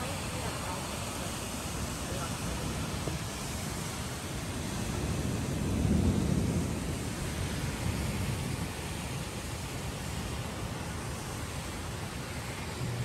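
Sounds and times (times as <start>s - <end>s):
heavy hail and rain: 0.0s - 13.0s.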